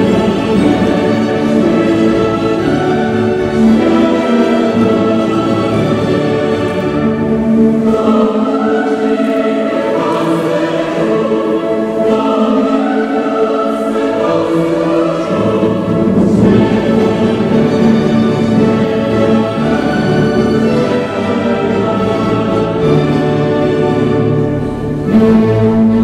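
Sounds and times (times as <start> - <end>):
choir singing a carol: 0.0 - 26.0
orchestra with bowed strings: 0.0 - 26.0.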